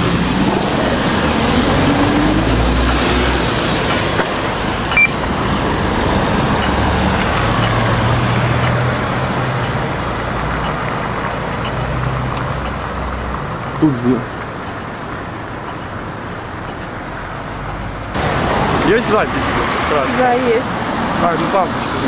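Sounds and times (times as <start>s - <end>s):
car engine hum: 0.0s - 22.0s
tyre noise on wet road: 0.0s - 22.0s.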